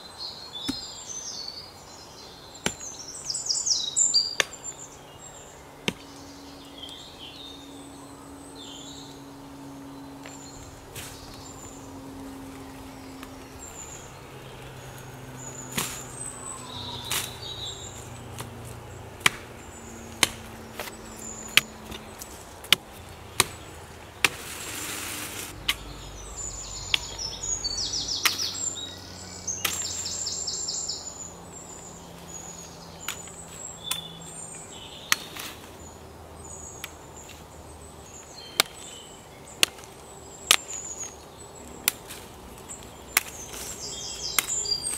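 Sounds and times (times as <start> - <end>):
small birds chirping: 0.0 - 44.9
foliage rustling: 0.2 - 44.9
blade chopping branches: 2.6 - 7.8, 10.2 - 30.4, 31.6 - 44.9.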